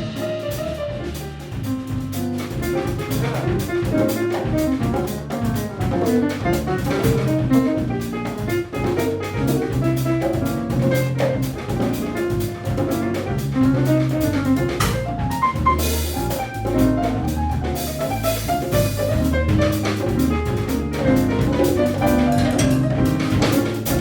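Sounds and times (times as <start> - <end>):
drum kit: 0.0 - 24.0
latin percussion: 0.0 - 24.0
piano notes: 0.0 - 24.0
walking bass line: 0.0 - 24.0.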